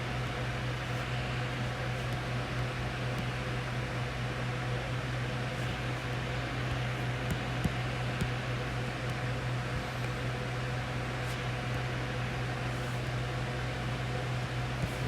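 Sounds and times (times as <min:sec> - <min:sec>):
room heater hum: 0:00.0 - 0:15.0.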